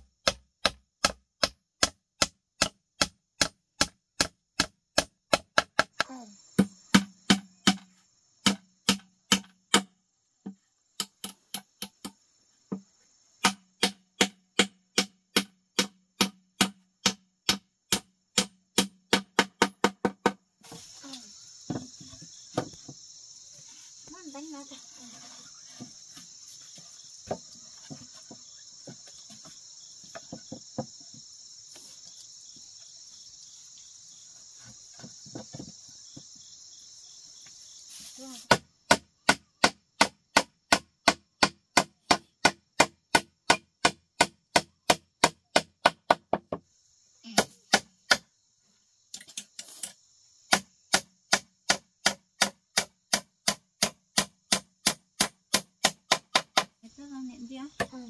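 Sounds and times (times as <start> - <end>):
high insect trill: 2.3 - 58.0.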